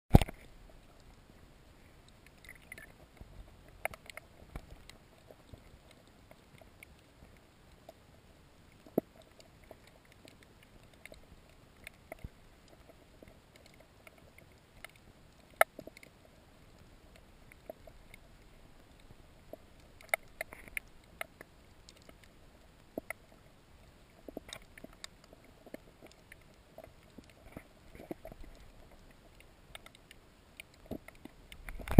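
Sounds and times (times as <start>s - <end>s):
sharp underwater clicks and knocks: 0.1s - 1.2s, 2.1s - 8.0s, 8.7s - 23.4s, 24.1s - 31.9s
underwater ambience: 0.1s - 31.9s.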